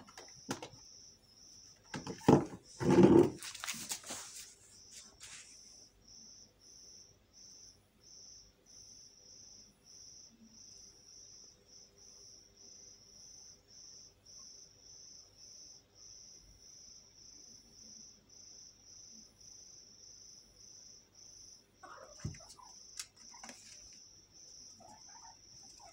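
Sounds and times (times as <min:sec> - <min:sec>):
cricket chirping: 0:00.0 - 0:03.8, 0:04.7 - 0:25.9.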